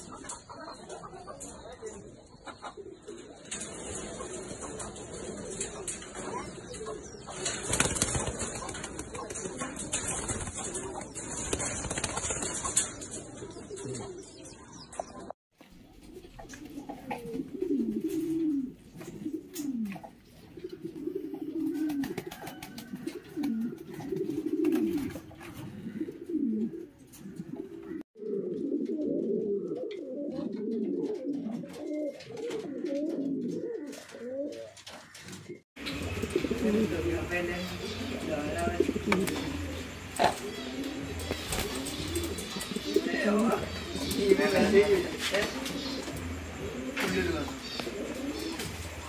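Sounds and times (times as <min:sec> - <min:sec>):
pigeons cooing: 0:00.0 - 0:49.0.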